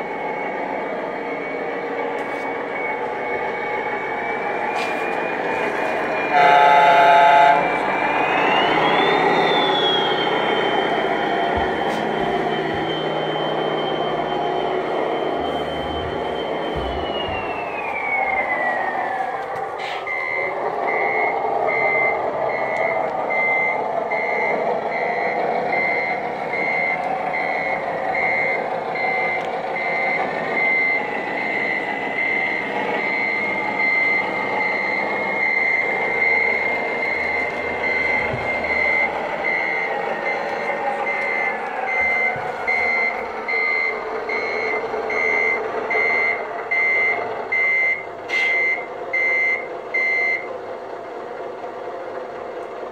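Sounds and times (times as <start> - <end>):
falling whine: 0.0 - 49.4
reversing beeper: 0.0 - 50.5
model truck drone: 0.0 - 52.9.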